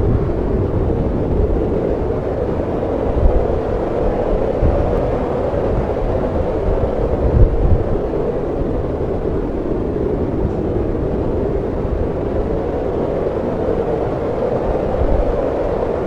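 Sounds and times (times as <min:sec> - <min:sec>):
snowstorm wind blowing: 0:00.0 - 0:16.0.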